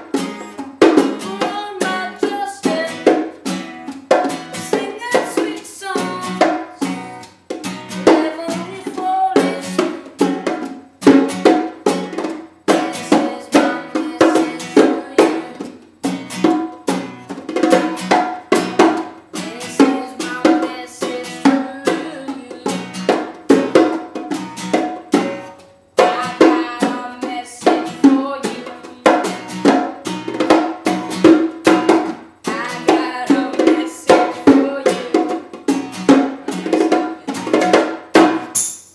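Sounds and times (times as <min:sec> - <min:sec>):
acoustic stringed instrument strumming: 0:00.0 - 0:38.6.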